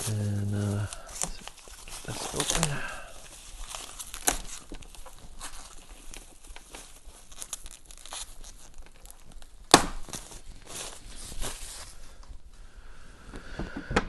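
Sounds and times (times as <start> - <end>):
cardboard and packing rustling: 0.0 - 12.5.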